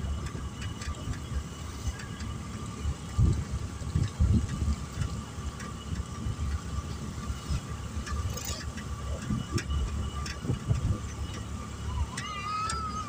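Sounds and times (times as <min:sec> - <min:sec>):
vehicle wind and road noise: 0:00.0 - 0:13.0
sharp rattles: 0:00.1 - 0:13.0.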